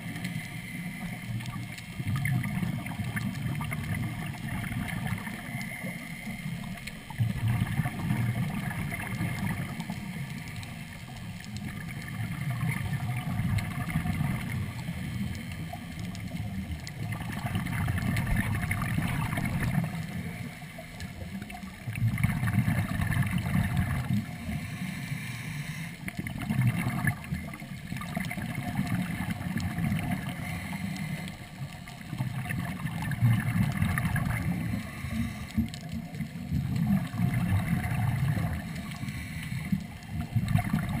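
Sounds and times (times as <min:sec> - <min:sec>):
exhaled air bubbling underwater: 0:00.0 - 0:41.0.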